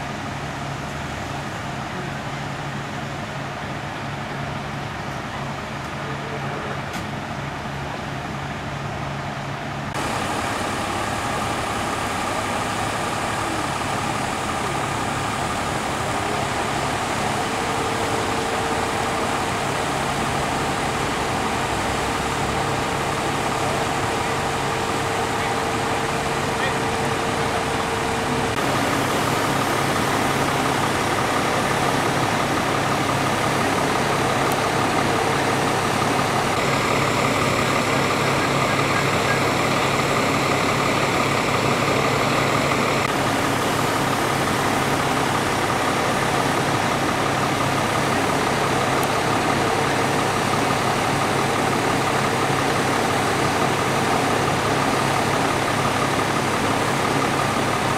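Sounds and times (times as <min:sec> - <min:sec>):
fire engine pump droning: 0:00.0 - 0:57.9.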